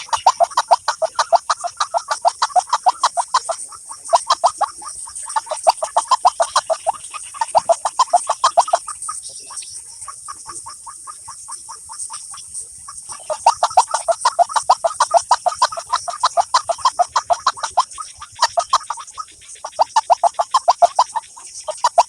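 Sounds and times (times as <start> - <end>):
fast clucking bird call: 0.0 - 22.0.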